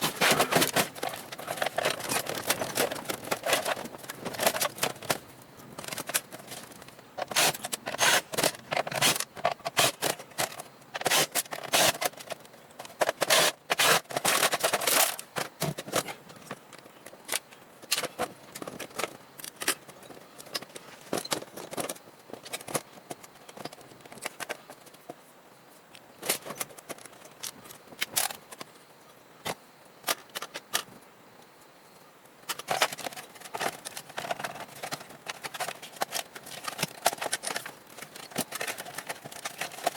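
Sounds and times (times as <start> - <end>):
computer parts clattering: 0.0 - 25.0, 32.5 - 39.9.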